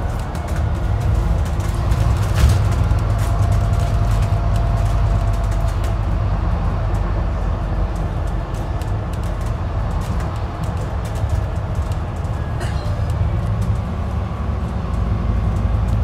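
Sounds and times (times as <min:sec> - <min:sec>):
body rattles and clicks: 0:00.0 - 0:16.0
bus engine and road drone: 0:00.0 - 0:16.0.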